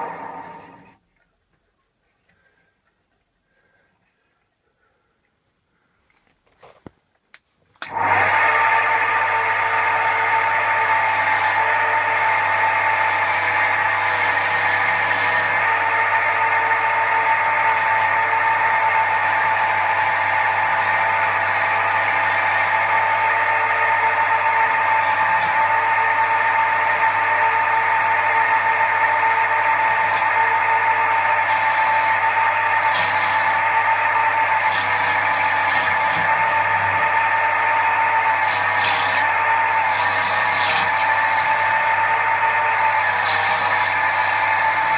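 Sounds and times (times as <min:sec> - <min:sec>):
wood lathe motor whine: 0:00.0 - 0:01.0, 0:07.8 - 0:44.9.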